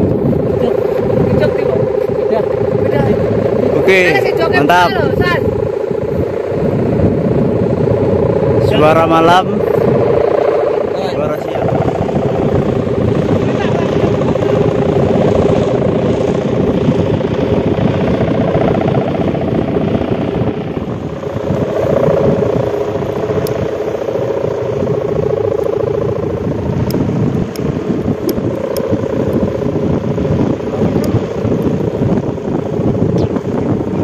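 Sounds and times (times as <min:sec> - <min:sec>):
kite hummers droning: 0:00.0 - 0:34.0.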